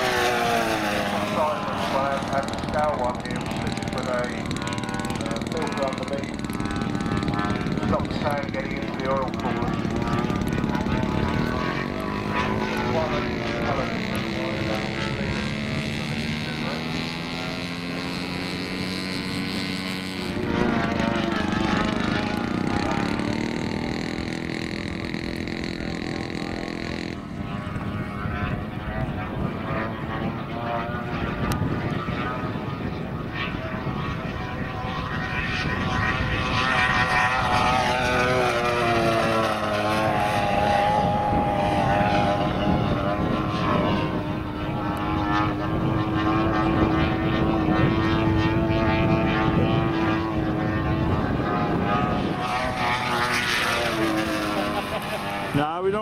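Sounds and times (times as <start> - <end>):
model plane engine passing: 0.0 - 56.0
propeller drone: 0.0 - 56.0.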